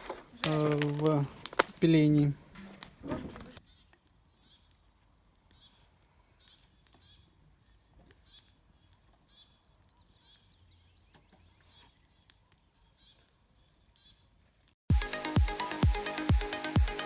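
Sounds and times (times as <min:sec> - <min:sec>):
faint birds chirping: 0:00.0 - 0:14.8.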